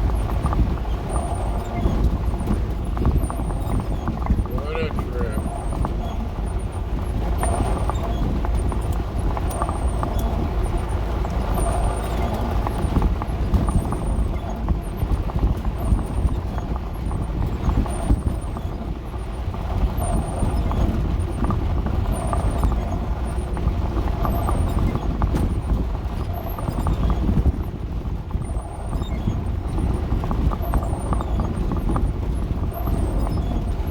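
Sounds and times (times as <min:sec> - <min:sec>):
van engine and road rumble: 0:00.0 - 0:33.9.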